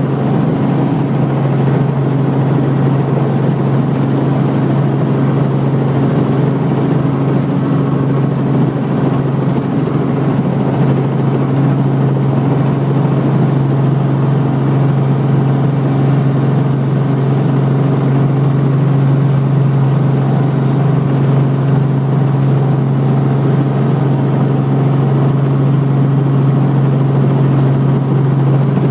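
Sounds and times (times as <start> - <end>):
helicopter engine and rotors droning: 0.0 - 28.9.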